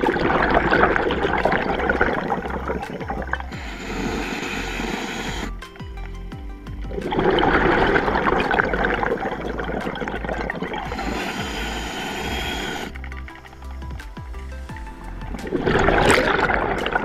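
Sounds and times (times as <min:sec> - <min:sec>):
underwater air bubbles gurgling: 0:00.0 - 0:05.7, 0:06.7 - 0:17.0.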